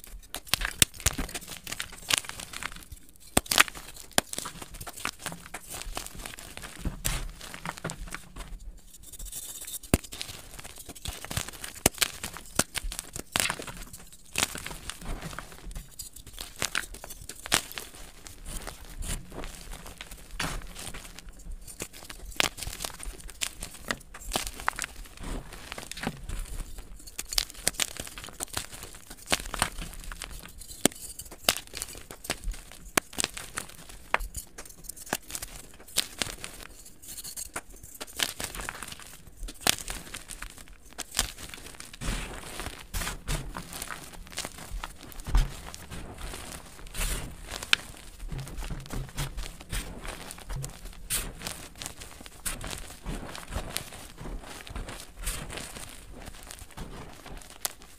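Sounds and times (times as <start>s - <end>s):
dry crackles and crunches: 0.0s - 57.9s
chalk crushed by hand: 0.1s - 57.9s
soft powdery rubbing: 1.4s - 57.9s.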